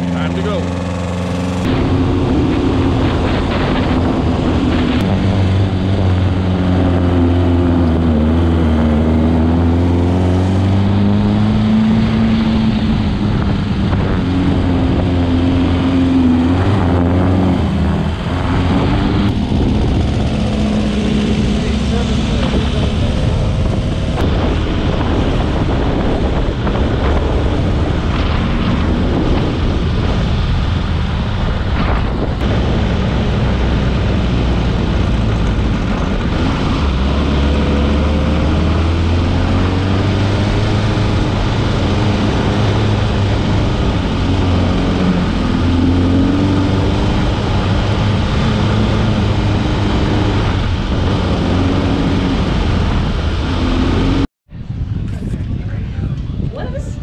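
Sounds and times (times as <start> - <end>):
dune buggy engine under load: 0.0 - 56.8
wind buffeting microphone: 0.0 - 57.0.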